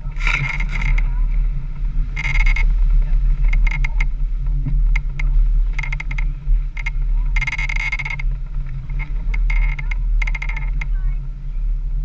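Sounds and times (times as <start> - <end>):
vehicle engine low drone: 0.0 - 12.0.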